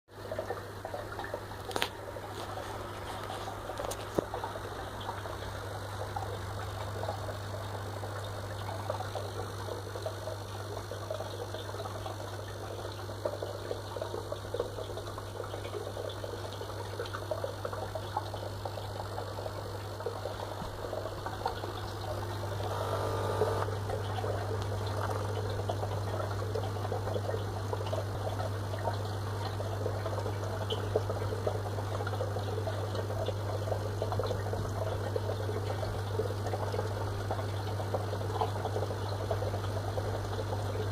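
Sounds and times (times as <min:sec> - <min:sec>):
aquarium filter electrical buzz: 0:00.1 - 0:40.9
water splashing and gurgling: 0:00.1 - 0:40.9.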